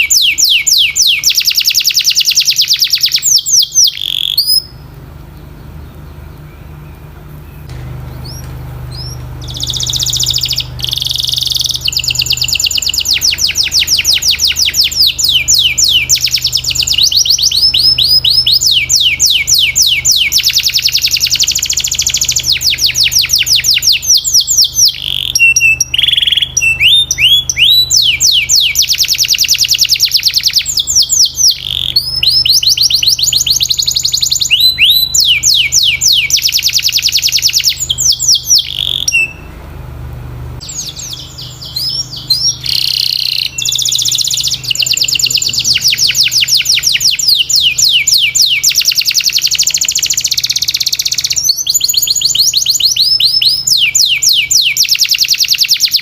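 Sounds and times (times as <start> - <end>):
canary singing trills: 0.0 - 39.6, 40.6 - 56.0.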